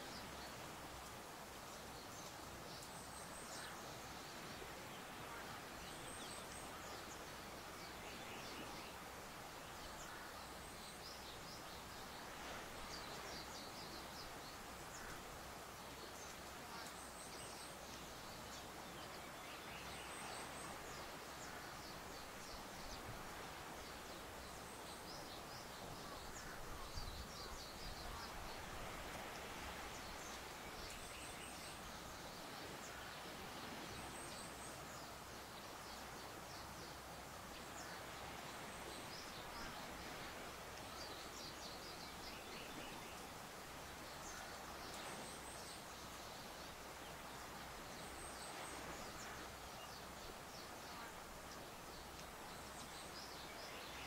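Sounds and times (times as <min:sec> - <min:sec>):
wind in tall grass: 0:00.0 - 0:54.0.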